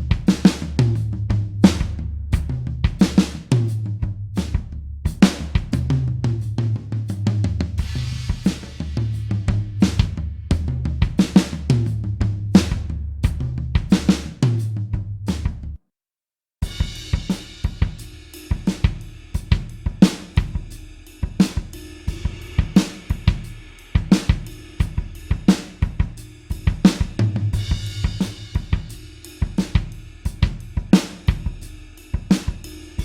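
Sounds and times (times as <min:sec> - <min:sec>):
rock drum kit beat: 0:00.0 - 0:15.6, 0:16.6 - 0:33.0.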